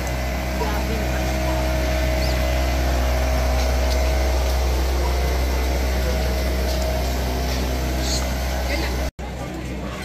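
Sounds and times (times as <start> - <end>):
engine humming steadily: 0.0 - 10.0.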